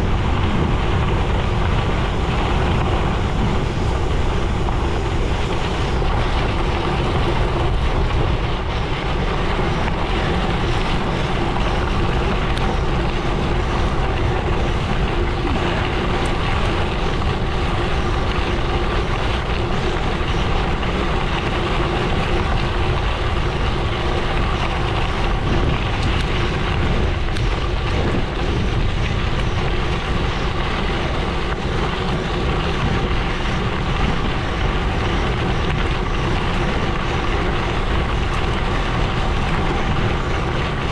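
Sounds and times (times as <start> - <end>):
bike tyres rolling on road: 0.0 - 40.9
wind buffeting microphone: 0.0 - 40.9.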